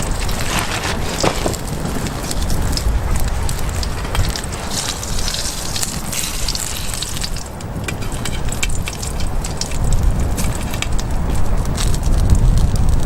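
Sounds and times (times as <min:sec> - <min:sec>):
campfire crackling and popping: 0:00.0 - 0:13.0
wind on microphone: 0:00.0 - 0:13.0.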